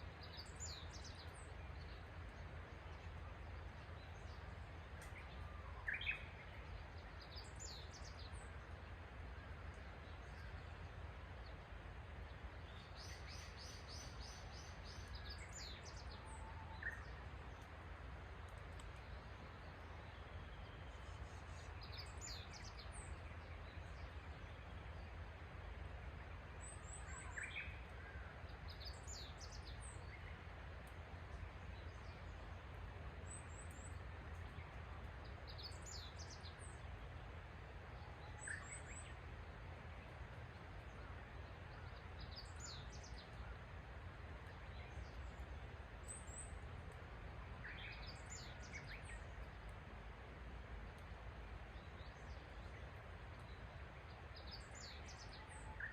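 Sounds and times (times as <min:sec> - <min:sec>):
small birds chirping: 0:00.0 - 0:25.6, 0:26.3 - 0:50.2, 0:50.8 - 0:55.9.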